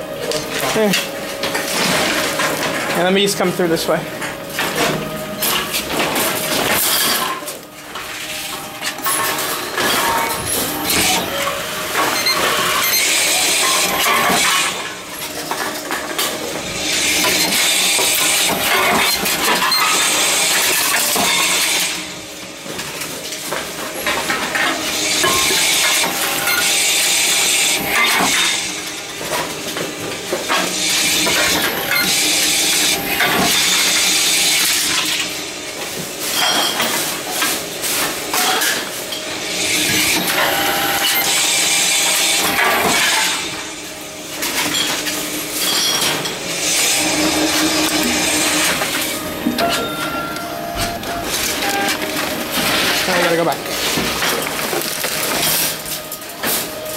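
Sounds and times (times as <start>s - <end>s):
vending machine running: 0.0s - 56.9s.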